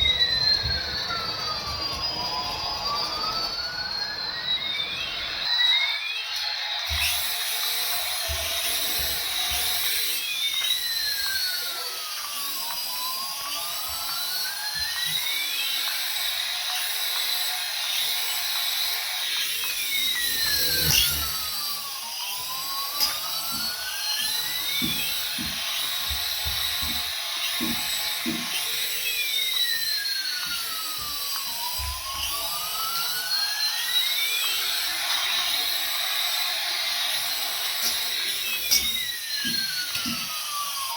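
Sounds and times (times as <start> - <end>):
toy electronic whine: 0.0 - 40.9.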